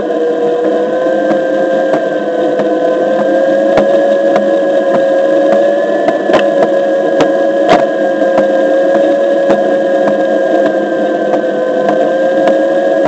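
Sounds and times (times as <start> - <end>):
electric board motor whine: 0.0 - 13.0.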